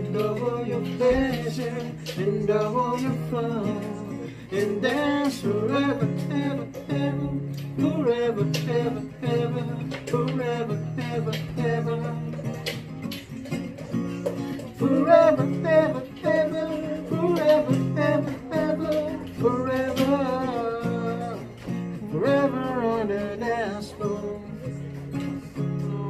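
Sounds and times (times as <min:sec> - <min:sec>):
man singing: 0:00.0 - 0:13.1, 0:14.3 - 0:26.0
acoustic guitar strumming: 0:00.0 - 0:26.0.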